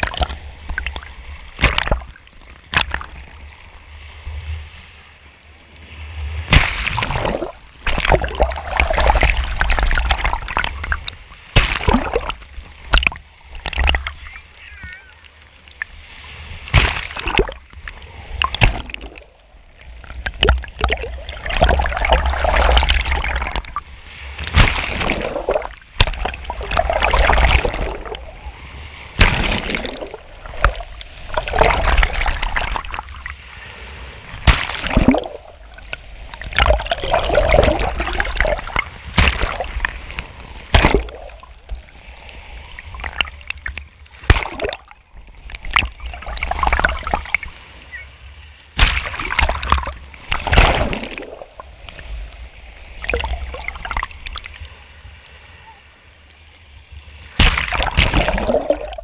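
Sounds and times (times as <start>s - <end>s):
sharp water splashes: 0.0s - 4.4s, 6.2s - 15.0s, 15.7s - 47.7s, 48.7s - 54.7s, 57.2s - 59.0s
low rumble of surf: 0.0s - 59.0s
small waves breaking in surf: 0.0s - 59.0s.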